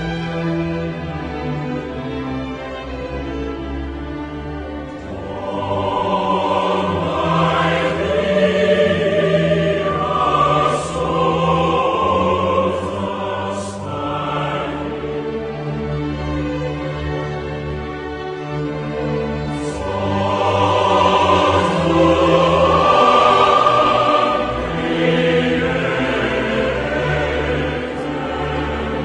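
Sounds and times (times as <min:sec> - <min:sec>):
slow choral singing: 0:04.7 - 0:29.0.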